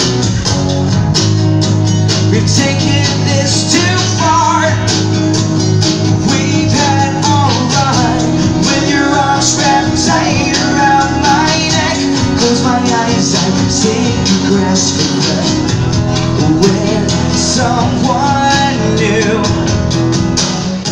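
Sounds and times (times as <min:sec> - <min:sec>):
percussion beat: 0:00.0 - 0:20.9
strummed acoustic guitars: 0:00.0 - 0:20.9
man singing: 0:02.2 - 0:05.3, 0:05.9 - 0:19.9.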